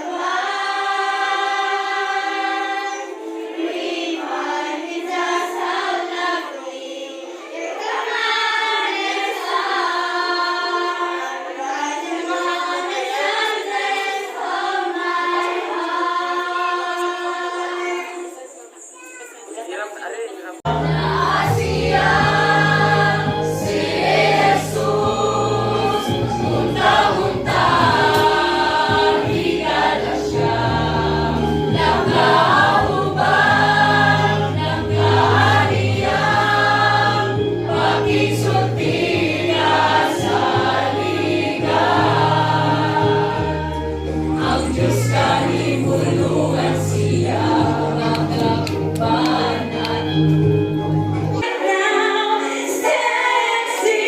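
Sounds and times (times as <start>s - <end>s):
choir singing a hymn: 0.0s - 18.6s, 20.7s - 54.0s.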